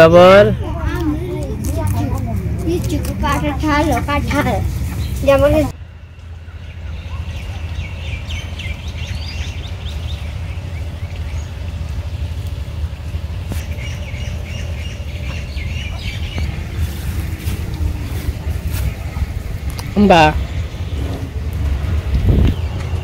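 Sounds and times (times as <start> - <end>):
low rumble: 0.1 - 23.0
small birds chirping: 0.6 - 5.7, 6.3 - 23.0.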